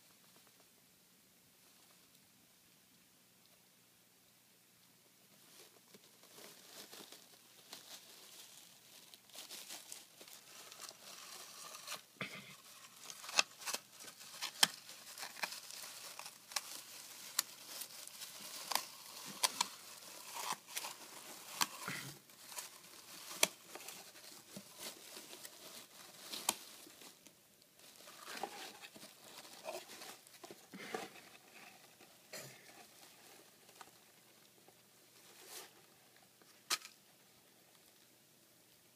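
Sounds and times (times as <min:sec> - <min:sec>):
wood shavings rustling and crackling: 0:05.4 - 0:36.9.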